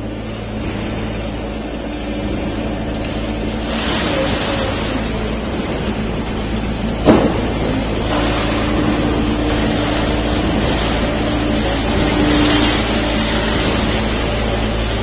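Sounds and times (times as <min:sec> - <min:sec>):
baler motor and pump drone: 0:00.0 - 0:15.0
humming tone: 0:00.0 - 0:15.0.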